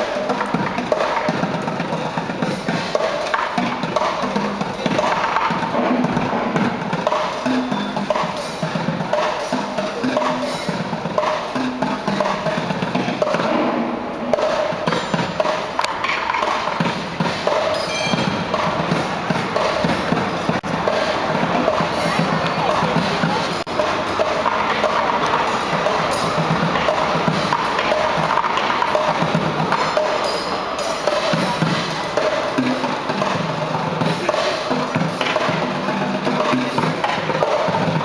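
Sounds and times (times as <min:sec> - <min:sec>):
drums playing rhythm: 0:00.0 - 0:38.0.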